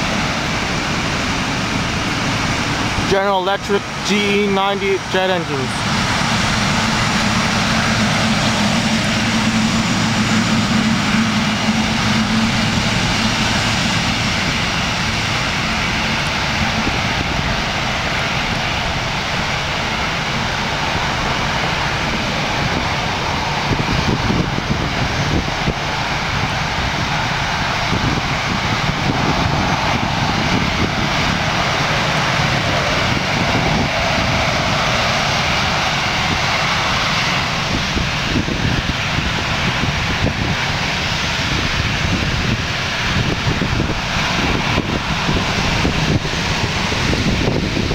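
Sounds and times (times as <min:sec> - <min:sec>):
jet engines running: 0:00.0 - 0:47.9.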